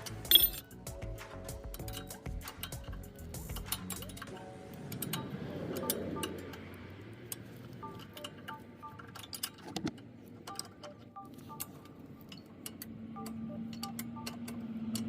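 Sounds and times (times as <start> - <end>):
soft background music: 0.0 - 9.6, 10.4 - 15.0
sharp metallic clicks: 0.0 - 15.0.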